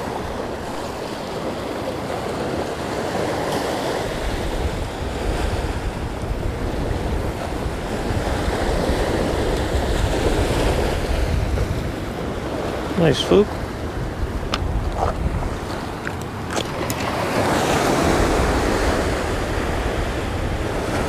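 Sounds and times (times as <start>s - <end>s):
waves breaking on sand and rocks: 0.0s - 21.0s
wind buffeting microphone: 0.0s - 21.0s.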